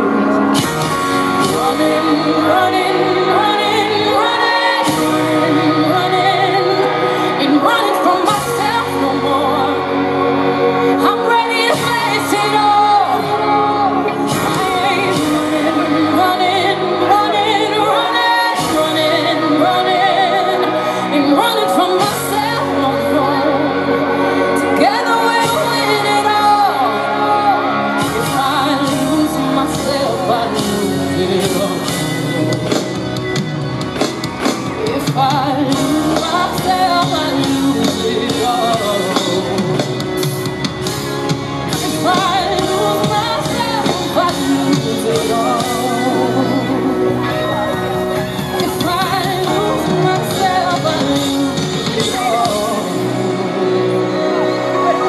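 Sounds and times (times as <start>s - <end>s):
woman singing into microphone: 0.0s - 33.5s, 34.3s - 55.0s
full band playing: 0.0s - 55.0s.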